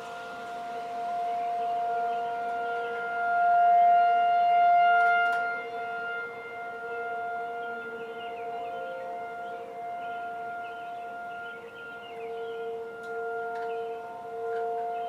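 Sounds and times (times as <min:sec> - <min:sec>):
tornado warning siren: 0:00.0 - 0:15.0.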